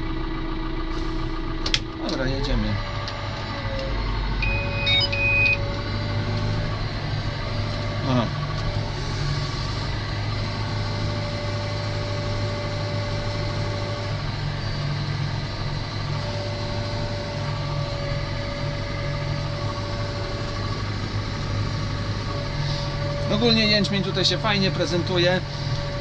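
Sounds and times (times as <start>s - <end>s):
tractor engine running: 0.0s - 26.0s
thin steady whine: 2.0s - 26.0s.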